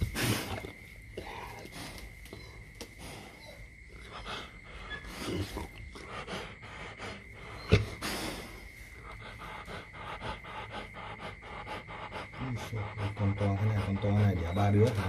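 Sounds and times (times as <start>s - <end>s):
dog breathing hard and snuffling: 0.0s - 15.0s.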